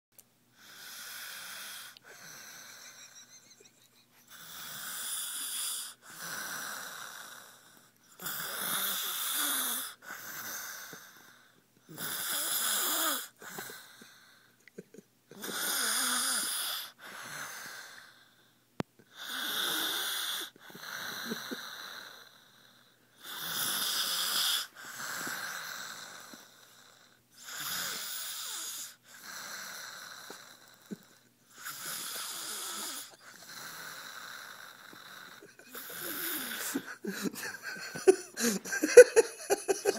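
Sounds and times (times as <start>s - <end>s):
child snoring: 0.6s - 3.4s, 4.2s - 14.5s, 15.3s - 18.4s, 19.1s - 39.9s.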